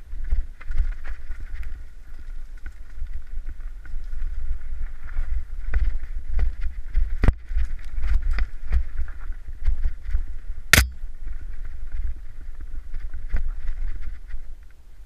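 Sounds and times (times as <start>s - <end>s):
bike rattling and clicking: 0.0s - 12.2s.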